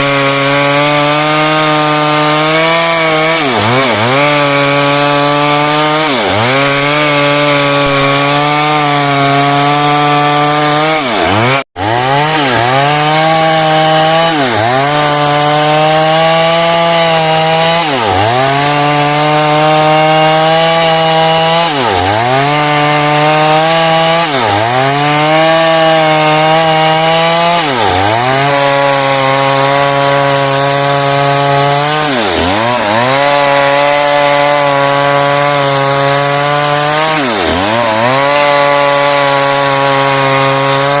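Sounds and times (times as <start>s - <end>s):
chainsaw cutting log: 0.0s - 41.0s.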